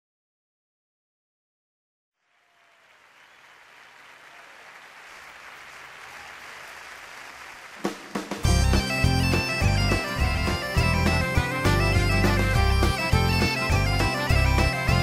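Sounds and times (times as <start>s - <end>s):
audience applauding: 2.2s - 15.0s.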